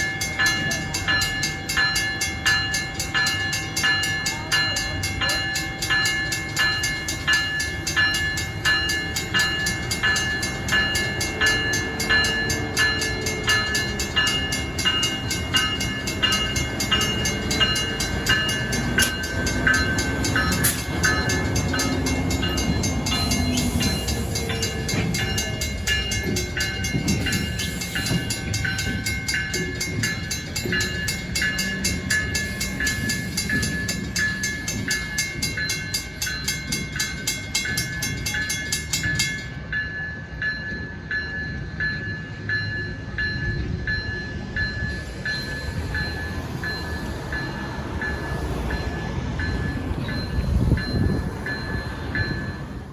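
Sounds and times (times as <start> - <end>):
train rumbling past: 0.0 - 52.9.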